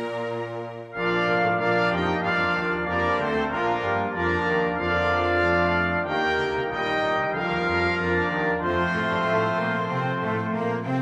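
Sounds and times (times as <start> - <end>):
brass chords: 0.0 - 11.0
orchestra playing: 0.0 - 11.0.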